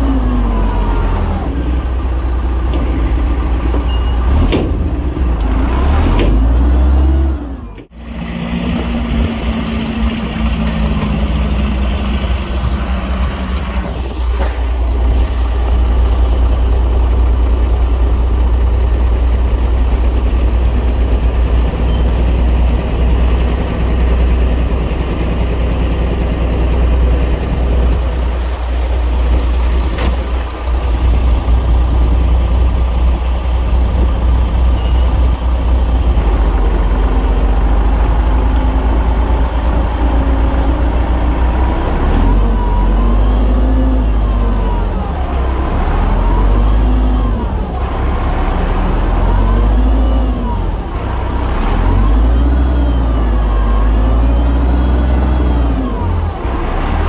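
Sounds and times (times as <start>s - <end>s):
diesel machinery engine rumble: 0.0s - 57.0s.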